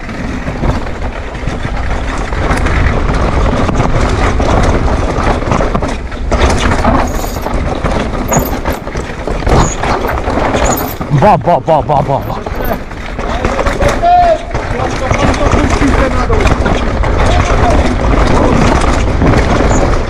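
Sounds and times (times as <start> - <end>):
bike knocking over rocks: 0.0 - 20.0
bike tyre noise and rattle: 0.0 - 20.0.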